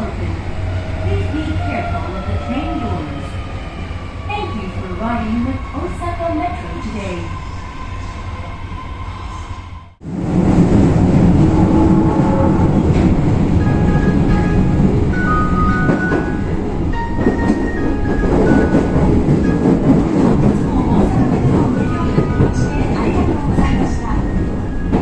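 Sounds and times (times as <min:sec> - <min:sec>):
subway train rumble and wheel clatter: 0:00.0 - 0:25.0.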